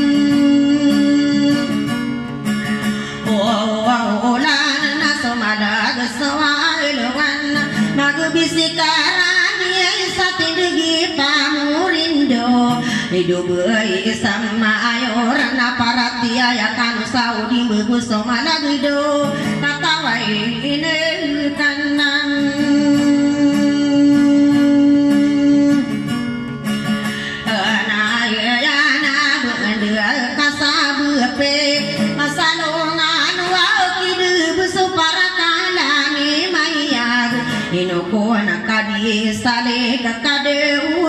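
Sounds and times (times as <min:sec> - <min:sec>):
strummed acoustic guitar: 0:00.0 - 0:41.0
woman singing: 0:00.0 - 0:41.0.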